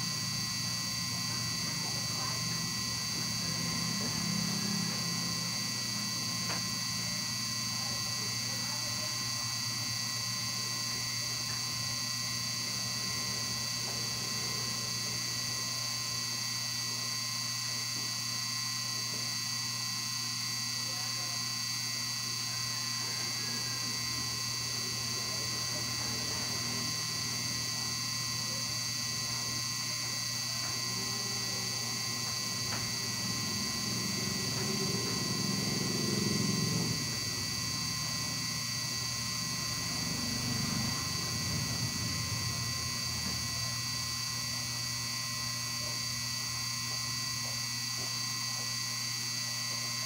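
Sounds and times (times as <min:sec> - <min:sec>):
electrical hum with high whine: 0:00.0 - 0:50.0.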